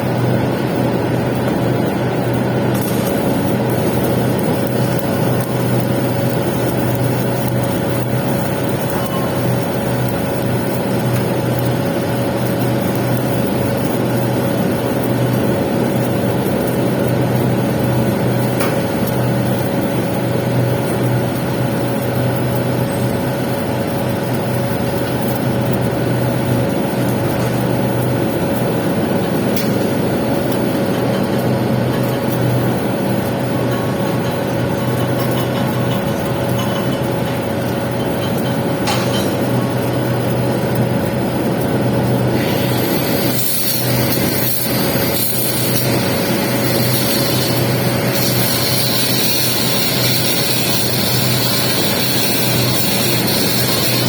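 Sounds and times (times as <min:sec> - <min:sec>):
machine hum: 0:00.0 - 0:54.0
welding arc crackling hiss: 0:00.1 - 0:54.0.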